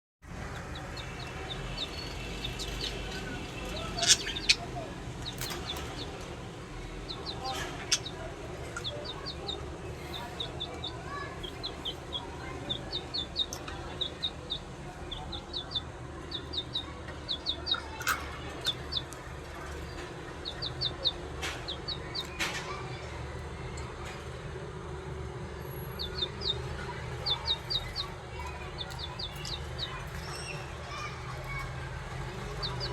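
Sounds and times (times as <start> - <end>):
budgerigars chirping: 0.6 - 6.3, 6.9 - 22.4, 25.8 - 31.6, 32.2 - 32.9.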